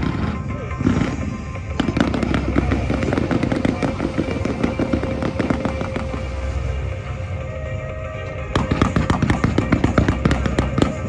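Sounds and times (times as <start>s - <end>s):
fireworks crackling and popping: 0.0s - 7.2s, 8.6s - 11.0s
low rumble: 0.0s - 11.0s.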